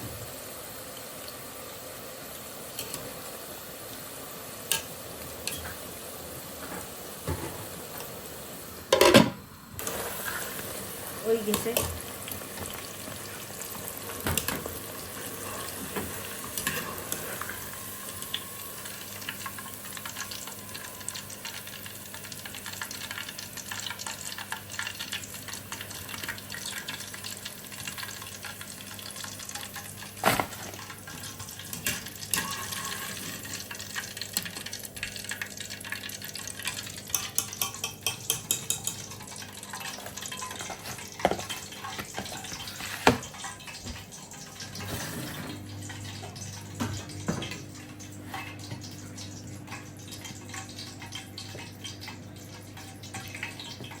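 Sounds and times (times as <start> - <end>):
food sizzling in hot oil: 0.1 - 45.5.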